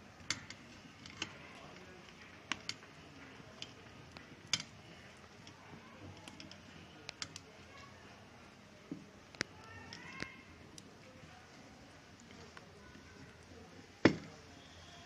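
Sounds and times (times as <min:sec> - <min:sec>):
batter popping in oil: 0:00.0 - 0:15.0
hot oil hissing: 0:00.0 - 0:15.0.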